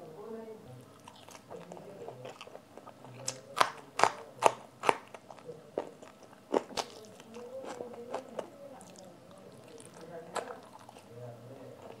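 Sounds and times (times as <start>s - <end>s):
soft chewing: 0.7s - 12.0s
crunching crisp food: 1.0s - 11.1s.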